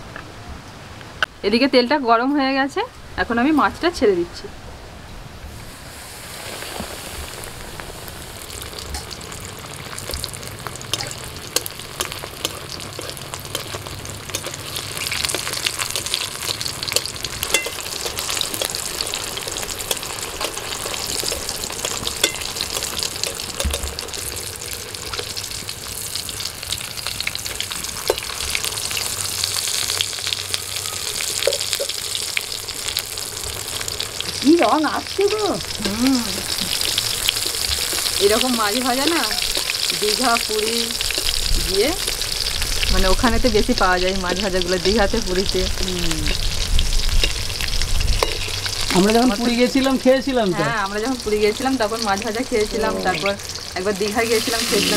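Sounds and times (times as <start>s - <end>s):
fish sizzling in hot oil: 5.5s - 54.9s.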